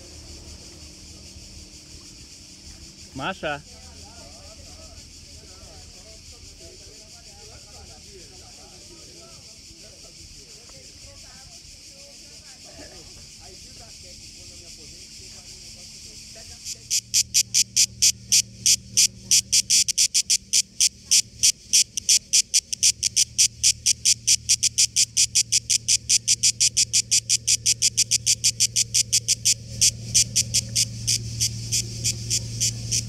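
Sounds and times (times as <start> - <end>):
cicada buzzing: 0.0 - 33.0.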